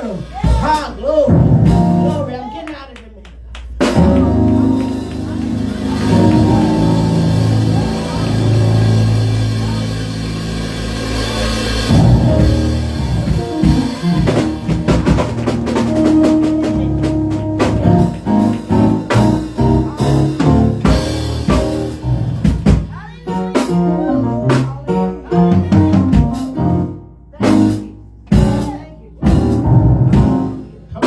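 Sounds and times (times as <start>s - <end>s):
music with drum kit and bass: 0.0s - 2.4s, 3.7s - 31.0s.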